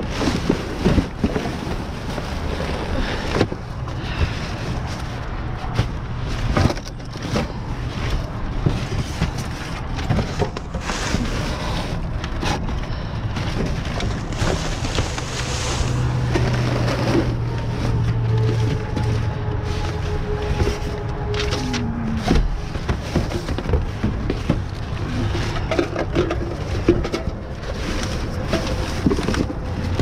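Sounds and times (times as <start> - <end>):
low steady hum: 0.0 - 30.0
rummaging bags and boxes: 0.0 - 30.0.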